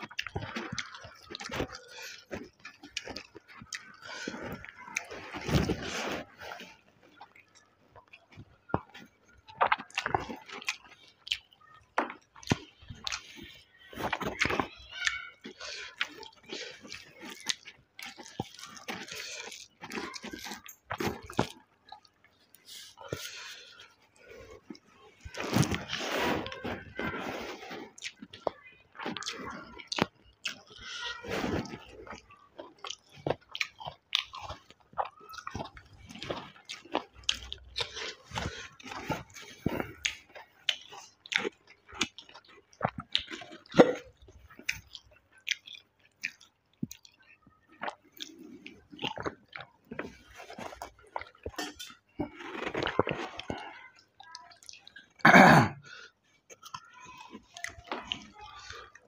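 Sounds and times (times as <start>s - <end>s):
person chewing and lip-smacking: 0.0s - 55.2s, 55.8s - 59.0s.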